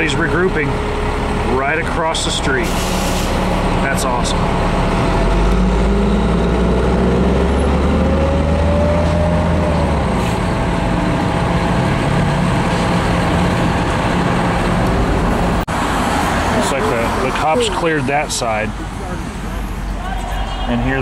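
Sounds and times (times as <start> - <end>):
heavy low rumble: 0.0 - 20.0
car engine and road noise: 0.0 - 21.0.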